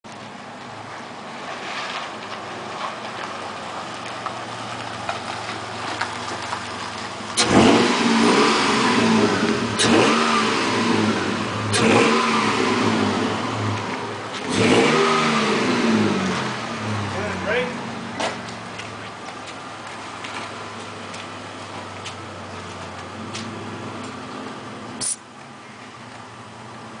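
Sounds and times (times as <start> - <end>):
truck engine idling and revving: 0.0 - 27.0.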